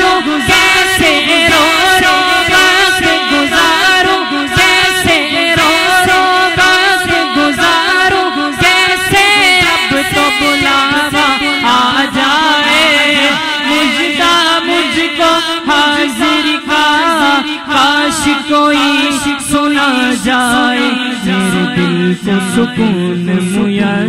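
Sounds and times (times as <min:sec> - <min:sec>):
low vocal drone: 0:00.0 - 0:24.0
man singing unaccompanied: 0:00.0 - 0:24.0.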